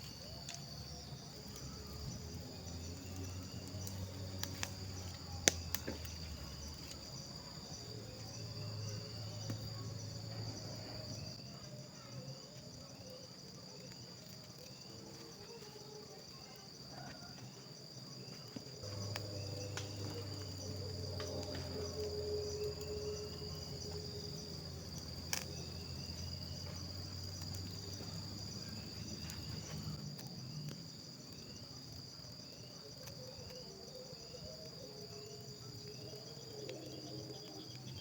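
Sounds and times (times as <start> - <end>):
forest insects trilling: 0.0 - 38.0.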